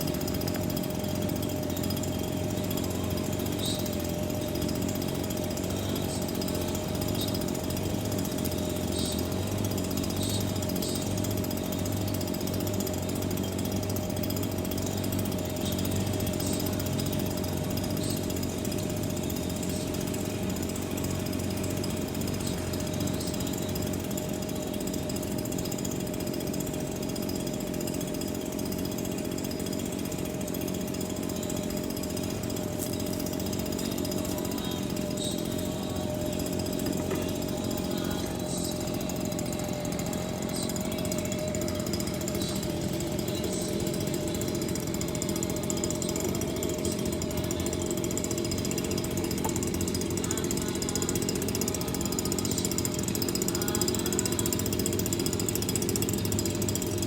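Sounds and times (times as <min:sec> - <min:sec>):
mechanical drone with held tone: 0:00.0 - 0:57.0.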